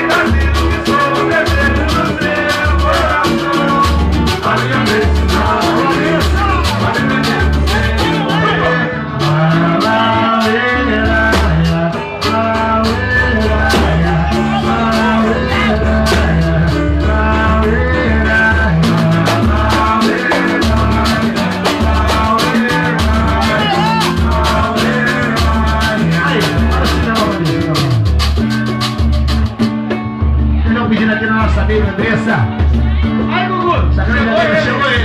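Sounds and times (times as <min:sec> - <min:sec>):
live band music: 0:00.0 - 0:35.0
low bass line: 0:00.0 - 0:35.0
percussion strikes: 0:00.0 - 0:35.0.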